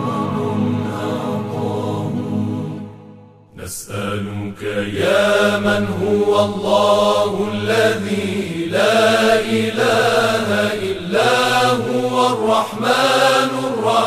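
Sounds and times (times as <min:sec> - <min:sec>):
reverb-heavy vocal chanting: 0:00.0 - 0:14.0.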